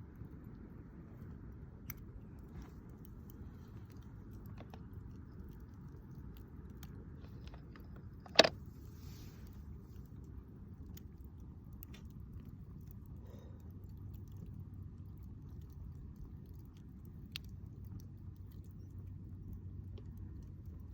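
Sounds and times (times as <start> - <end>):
campfire crackling: 0.0 - 20.9.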